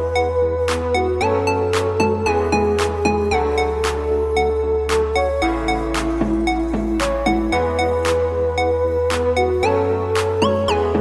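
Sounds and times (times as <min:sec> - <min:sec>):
upbeat electronic music: 0:00.0 - 0:11.0.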